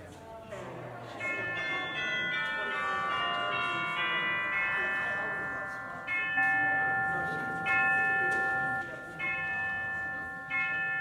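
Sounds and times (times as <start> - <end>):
bell-like chimes: 1.1 - 11.0.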